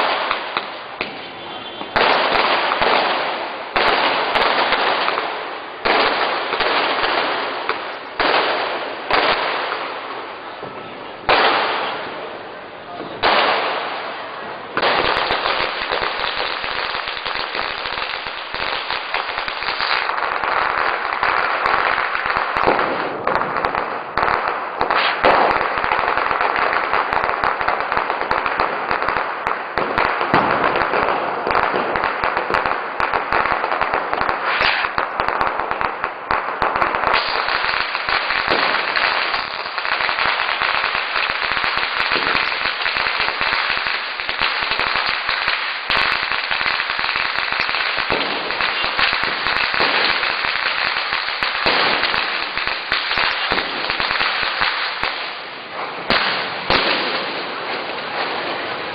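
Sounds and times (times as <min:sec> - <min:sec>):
firecrackers cracking and banging: 0:00.0 - 0:58.9.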